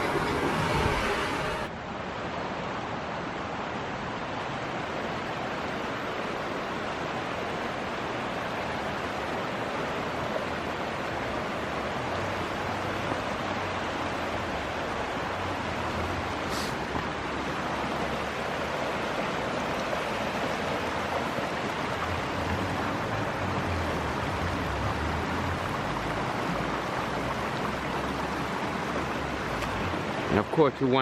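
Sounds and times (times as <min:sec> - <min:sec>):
creek water rushing over rocks: 0:00.0 - 0:31.0.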